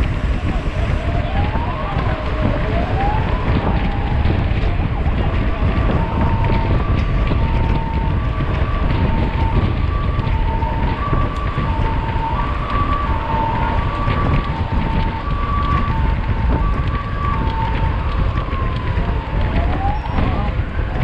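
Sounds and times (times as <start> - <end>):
two-tone siren: 0.0 - 21.0
wind buffeting microphone: 0.0 - 21.0.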